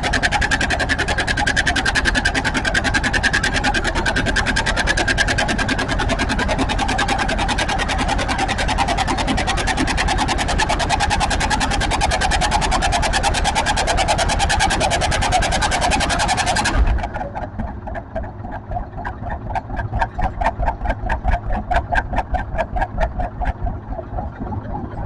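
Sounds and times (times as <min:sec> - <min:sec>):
tractor engine under load: 0:00.0 - 0:25.0.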